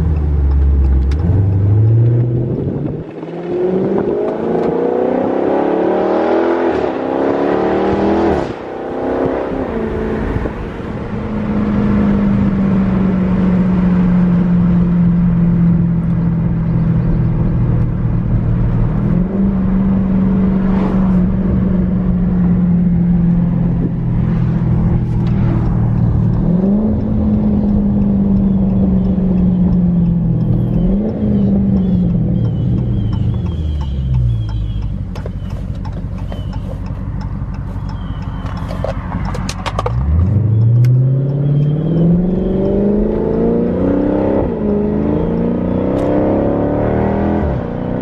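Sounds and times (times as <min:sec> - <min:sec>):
car engine droning: 0:00.0 - 0:48.0.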